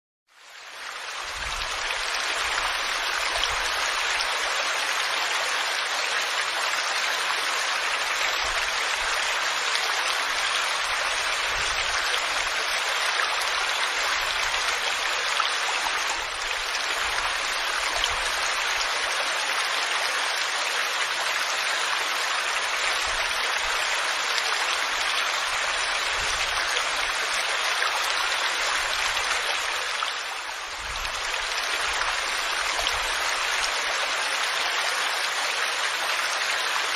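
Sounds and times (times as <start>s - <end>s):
waterfall rushing: 1.1s - 36.9s.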